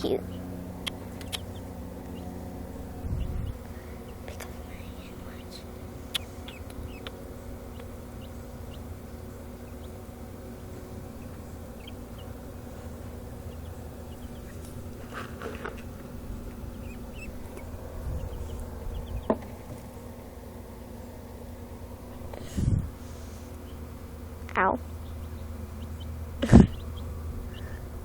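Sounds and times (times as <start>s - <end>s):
baby chicks peeping: 0.0s - 28.0s
steady low hum: 0.0s - 28.0s.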